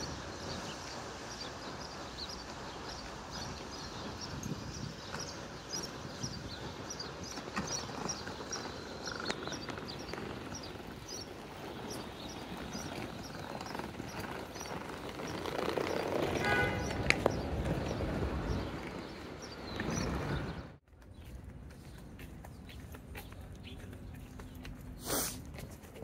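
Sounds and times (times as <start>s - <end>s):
bird chirping: 0.0s - 25.1s
distant traffic hum: 0.0s - 26.0s.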